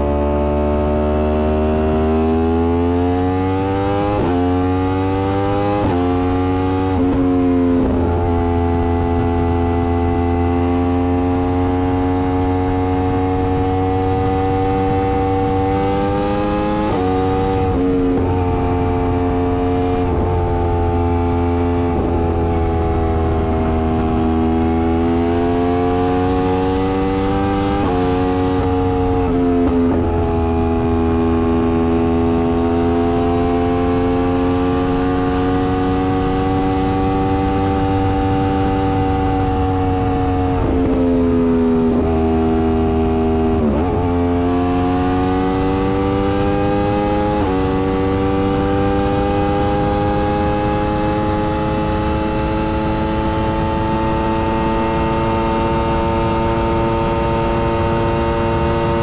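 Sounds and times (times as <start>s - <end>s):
motorcycle engine upshifting: 0.1s - 59.0s
low wind rumble: 4.2s - 59.0s.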